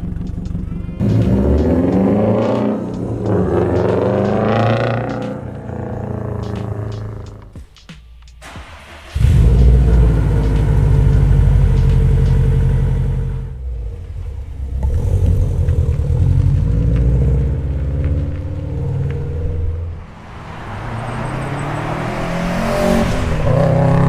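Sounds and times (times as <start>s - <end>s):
car exhaust deep note: 0.0s - 7.6s, 8.4s - 24.0s.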